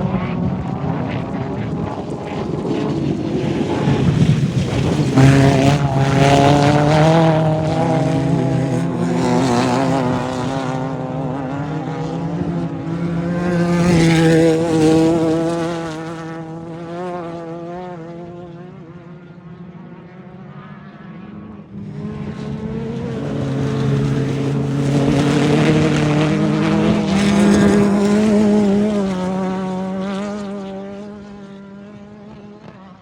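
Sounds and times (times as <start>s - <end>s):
race vehicle engines passing: 0.0s - 33.0s.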